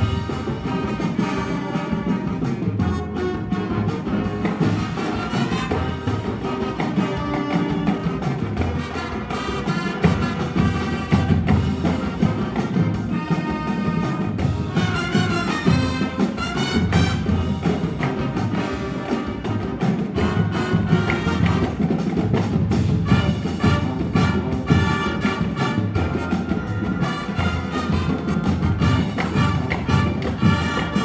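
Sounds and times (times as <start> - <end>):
brass playing jazz: 0.0 - 31.0
drumline percussion: 0.0 - 31.0.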